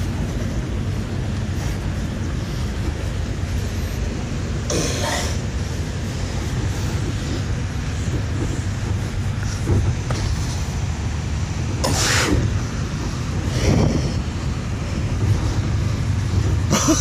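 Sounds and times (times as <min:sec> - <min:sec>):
wind buffeting microphone: 0:00.0 - 0:04.7, 0:05.4 - 0:17.0.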